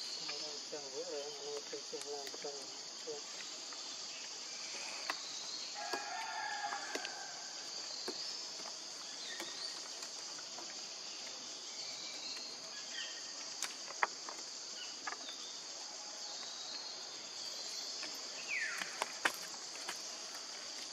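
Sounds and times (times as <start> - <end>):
forest insects chorus: 0.0 - 20.9.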